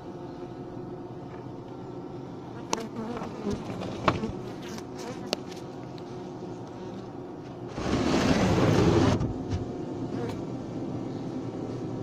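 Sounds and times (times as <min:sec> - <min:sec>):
bee colony humming: 0:00.0 - 0:12.0.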